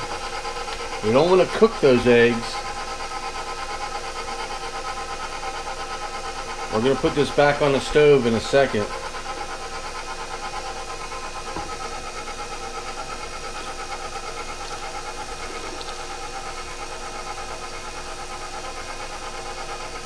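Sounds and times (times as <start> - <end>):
stand mixer motor whirring: 0.0 - 20.0.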